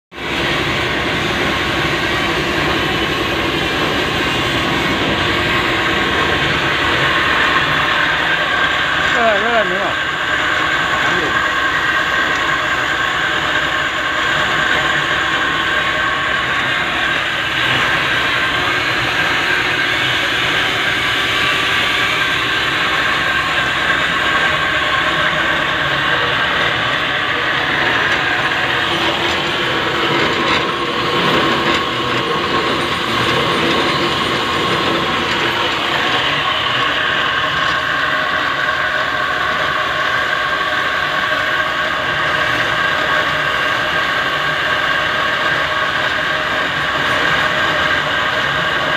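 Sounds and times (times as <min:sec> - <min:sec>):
boring machine whining and rattling: 0:00.1 - 0:48.9.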